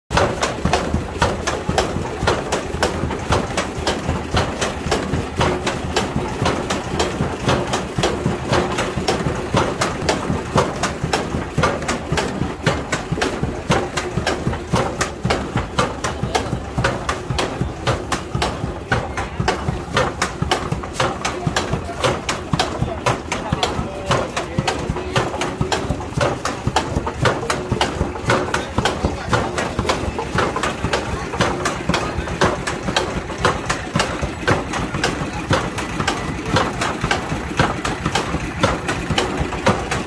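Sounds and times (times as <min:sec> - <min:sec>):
wooden wheel mechanism clattering: 0:00.1 - 0:40.0.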